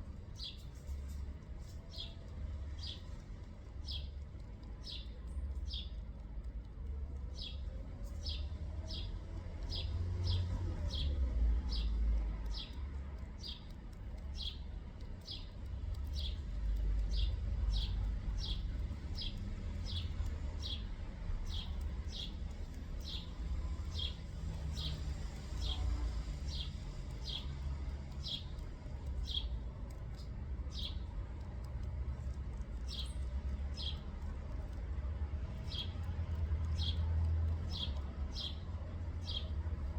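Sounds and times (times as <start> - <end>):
small bird chirping: 0.3 - 6.1, 7.2 - 39.9.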